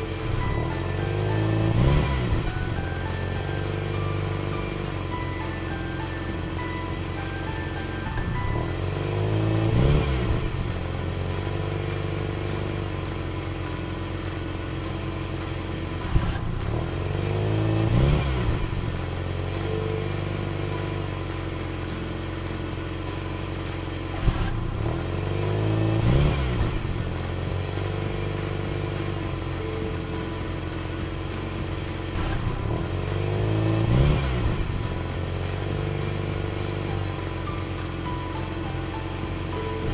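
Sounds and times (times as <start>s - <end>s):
revving vroom-like sweep: 0.0s - 5.2s, 8.1s - 39.9s
background music: 0.0s - 39.9s.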